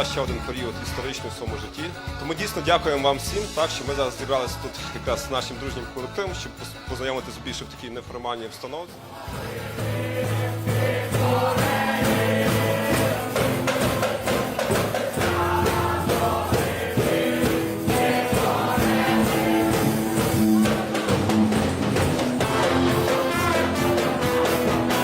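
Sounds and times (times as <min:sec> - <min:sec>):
music with steady beat and choir: 0:00.0 - 0:25.0.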